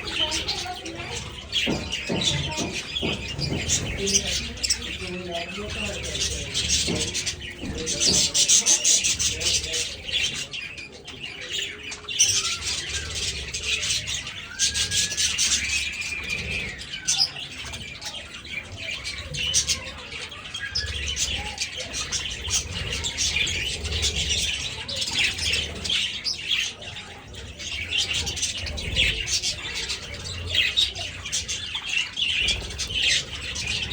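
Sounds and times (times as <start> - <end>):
budgerigars chattering and chirping: 0.0 - 33.9.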